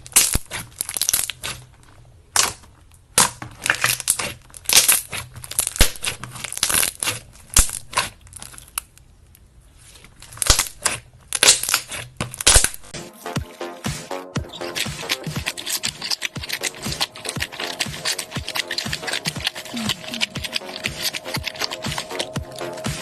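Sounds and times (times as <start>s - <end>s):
slime crackling and popping: 0.0s - 1.7s, 2.3s - 9.0s, 10.2s - 13.0s, 14.4s - 23.0s.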